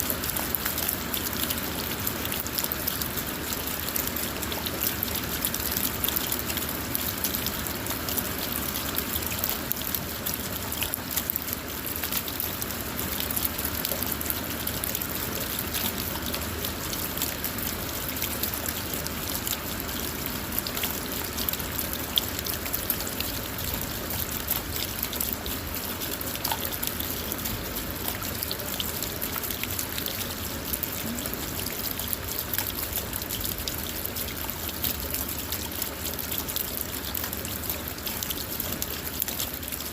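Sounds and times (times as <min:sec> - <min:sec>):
rain on a car: 0:00.0 - 0:39.9
water trickling: 0:00.0 - 0:39.9.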